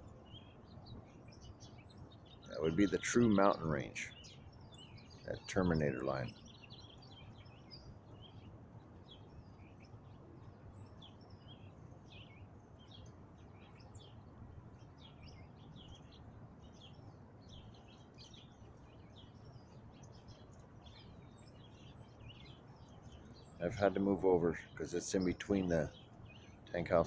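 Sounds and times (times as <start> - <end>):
birds chirping: 0.0 - 27.0
low steady background rumble: 0.0 - 27.0.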